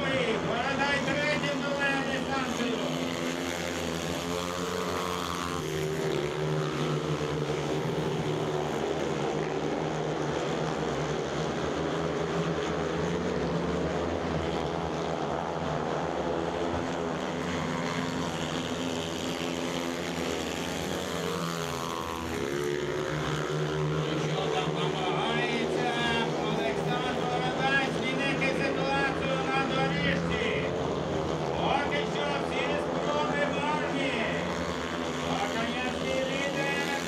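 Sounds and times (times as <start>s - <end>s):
motorcycles racing: 0.0s - 37.0s.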